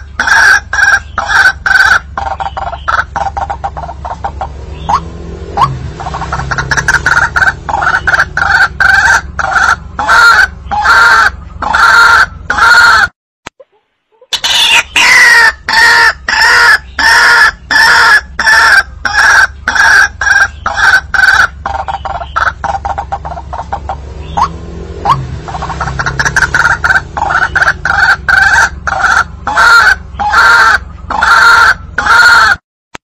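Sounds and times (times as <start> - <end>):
waterhen calling: 0.0 - 32.6.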